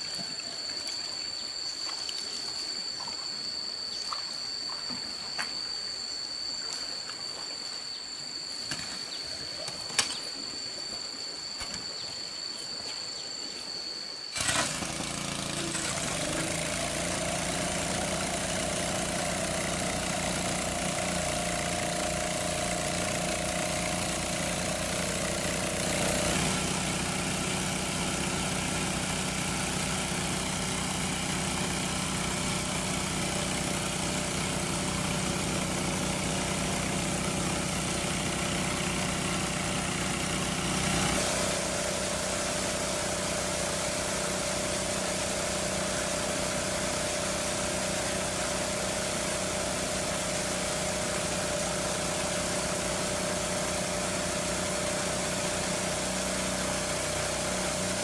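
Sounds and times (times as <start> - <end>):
small engine water pump running: 0.0 - 5.6, 14.3 - 58.0.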